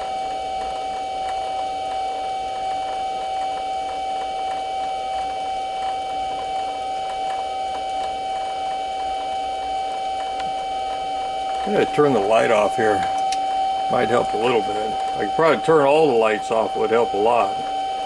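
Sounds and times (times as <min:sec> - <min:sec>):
metal lathe whining: 0:00.0 - 0:18.0.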